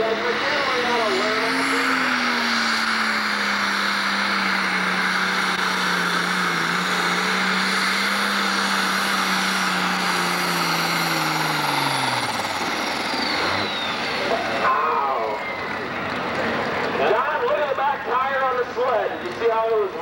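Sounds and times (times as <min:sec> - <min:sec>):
diesel tractor engine under load: 0:00.0 - 0:20.0.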